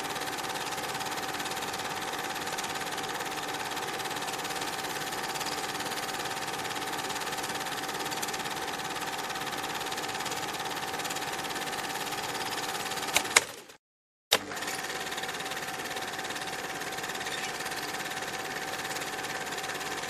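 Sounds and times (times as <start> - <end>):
film projector whirring: 0.0 - 20.0.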